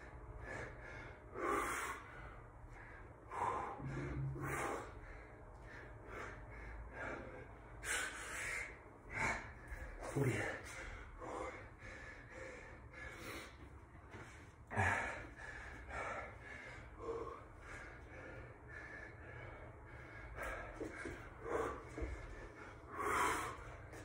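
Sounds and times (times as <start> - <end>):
man breathing hard: 0.0 - 24.0.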